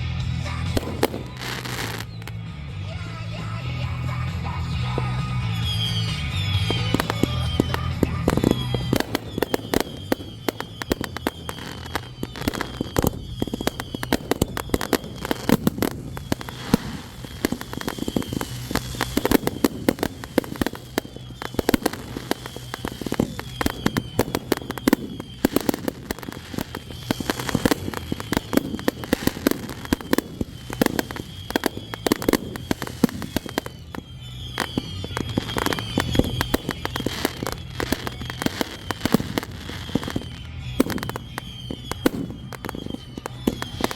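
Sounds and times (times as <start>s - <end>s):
fireworks popping and banging: 0.0s - 43.9s.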